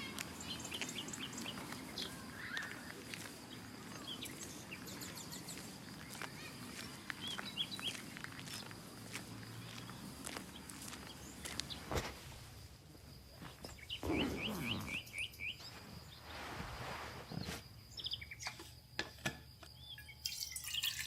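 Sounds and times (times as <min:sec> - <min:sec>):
small birds chirping: 0:00.0 - 0:12.2, 0:13.1 - 0:16.7, 0:17.3 - 0:18.8.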